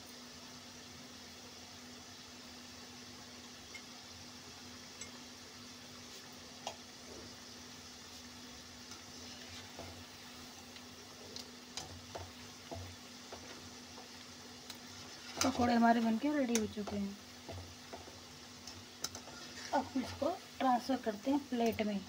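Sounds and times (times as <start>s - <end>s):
faint steady hum: 0.0s - 22.0s
food sizzling in hot oil: 0.0s - 22.0s.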